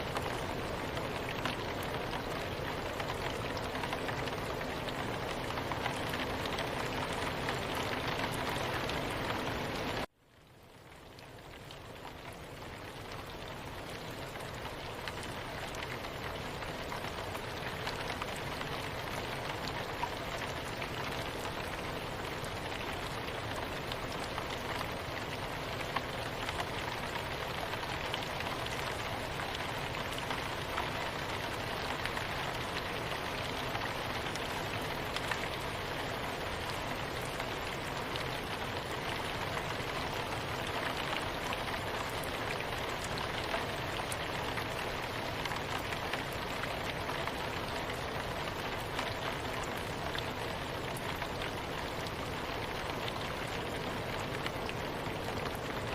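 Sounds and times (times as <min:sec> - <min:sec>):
rain drop ticks: 0:00.0 - 0:55.9
soft rain falling: 0:00.0 - 0:55.9.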